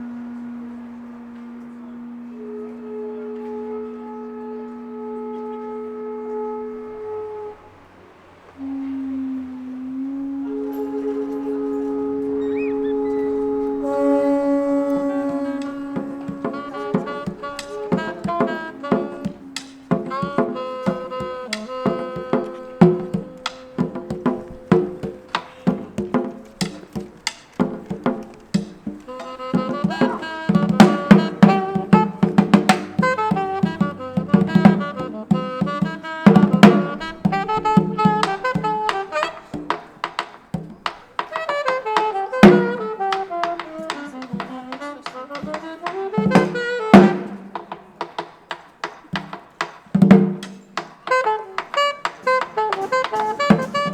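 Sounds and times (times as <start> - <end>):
lively instrumental music: 0.0 - 53.9.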